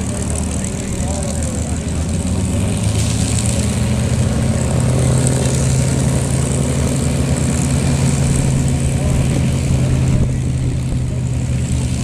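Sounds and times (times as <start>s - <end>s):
propeller engines droning: 0.0s - 12.0s.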